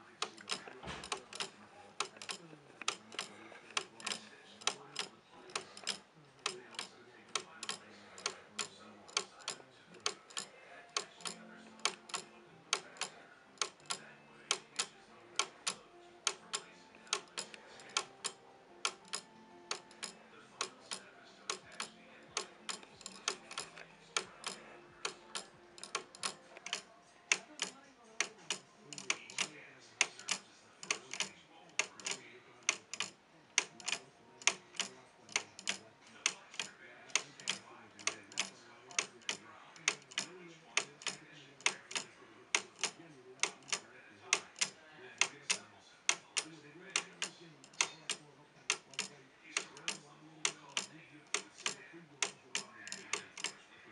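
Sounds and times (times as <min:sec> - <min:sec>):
pendulum clock ticking: 0:00.2 - 0:53.6.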